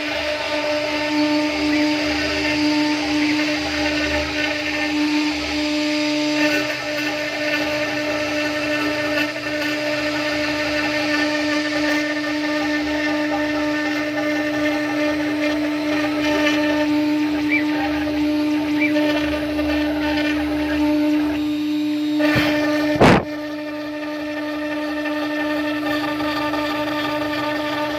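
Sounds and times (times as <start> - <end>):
router spindle whine: 0.0 - 27.9.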